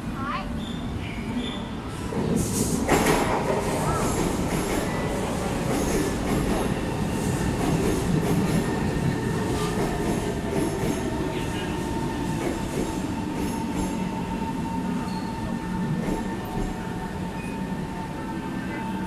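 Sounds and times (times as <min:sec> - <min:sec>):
train wheels rumbling on rails: 0:01.5 - 0:19.0.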